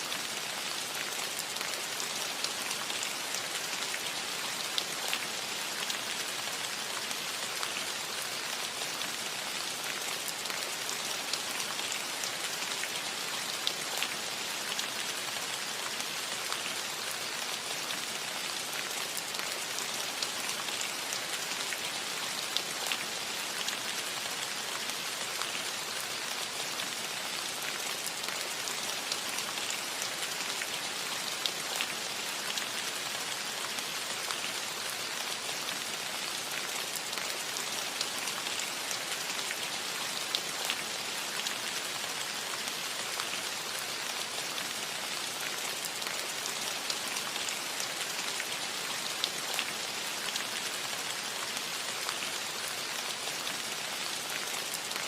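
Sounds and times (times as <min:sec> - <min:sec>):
gentle rain on a metal roof: 0:00.0 - 0:55.0.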